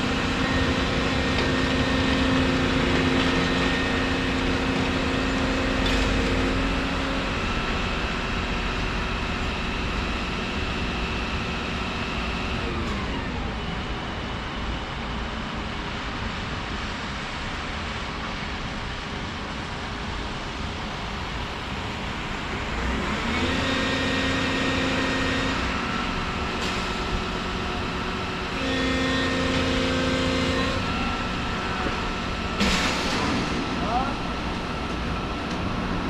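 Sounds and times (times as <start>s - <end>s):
hydraulic whine: 0.0s - 17.3s, 19.7s - 36.0s
excavator running: 0.0s - 36.0s.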